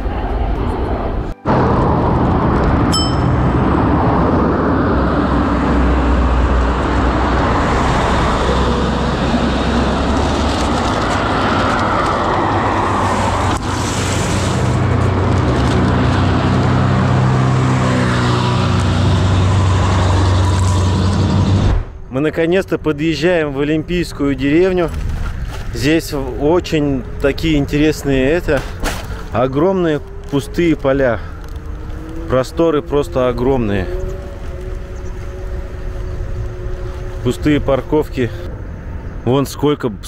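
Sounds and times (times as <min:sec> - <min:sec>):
road traffic passing: 0:00.0 - 0:40.0
truck engine: 0:00.1 - 0:22.1, 0:22.9 - 0:39.2.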